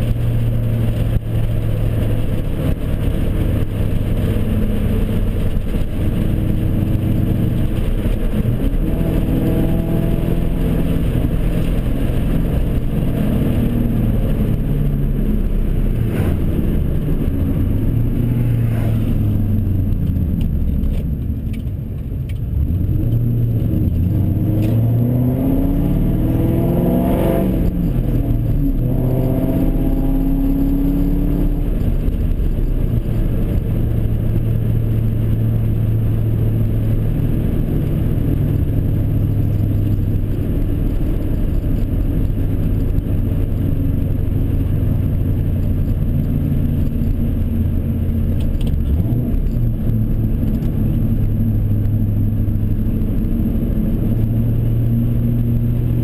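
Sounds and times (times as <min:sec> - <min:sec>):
car engine accelerating from cabin: 0:00.0 - 0:56.0.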